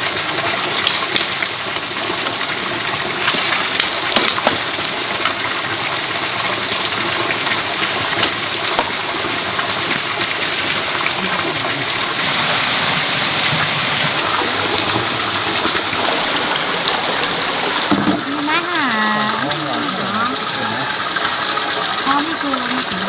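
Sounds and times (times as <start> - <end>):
running water rushing: 0.0 - 23.0.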